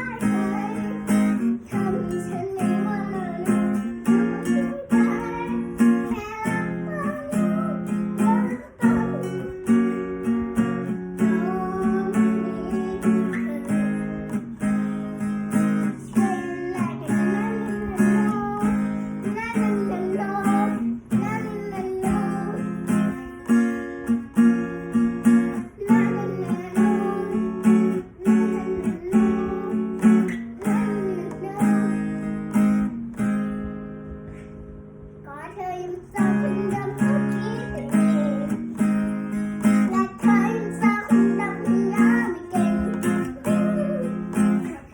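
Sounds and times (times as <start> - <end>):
acoustic guitar strumming: 0.0 - 44.9
person singing melody: 0.0 - 44.9.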